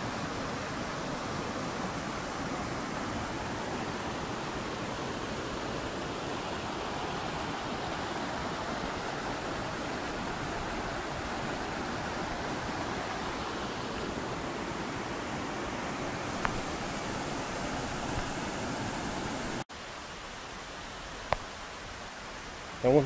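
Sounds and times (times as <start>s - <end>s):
river flowing over boulders: 0.0s - 23.0s.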